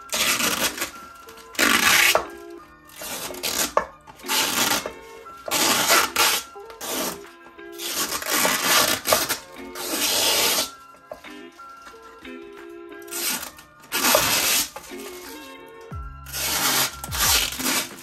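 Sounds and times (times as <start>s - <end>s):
chill instrumental music: 0.0s - 18.0s
held keyboard notes: 0.0s - 18.0s.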